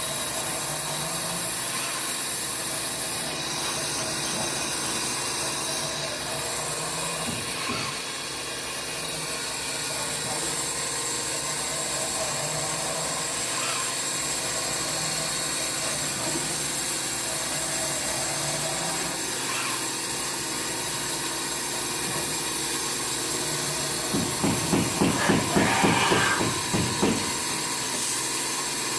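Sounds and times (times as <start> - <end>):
constant whining tones: 0.0 - 28.9
milling machine hiss and hum: 0.0 - 28.9.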